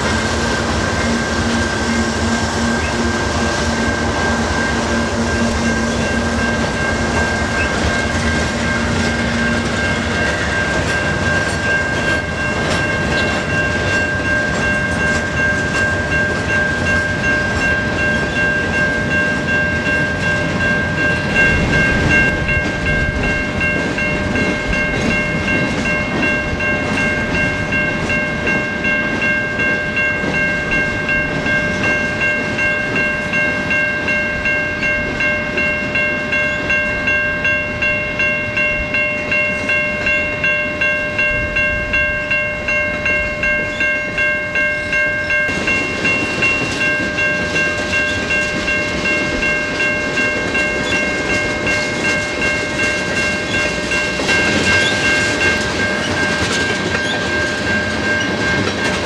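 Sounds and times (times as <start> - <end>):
crossing warning bell ringing: 0.0 - 59.0
freight train wheels clacking: 0.0 - 59.0.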